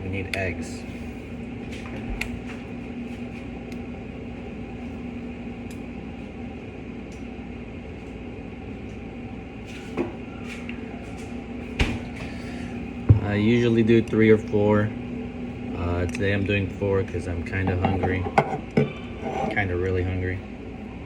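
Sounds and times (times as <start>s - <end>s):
kitchen appliance humming: 0.0s - 21.0s.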